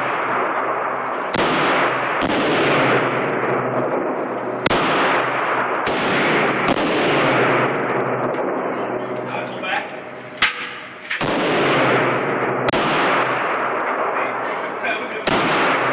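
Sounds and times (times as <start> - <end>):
rifle shots with echo: 0.0 - 15.9.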